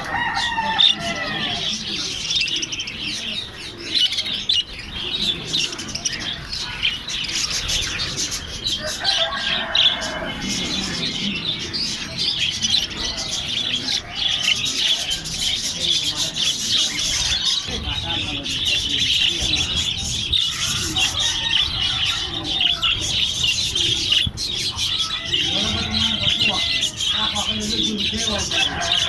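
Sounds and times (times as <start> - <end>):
parrots chirping and chattering: 0.0 - 29.0.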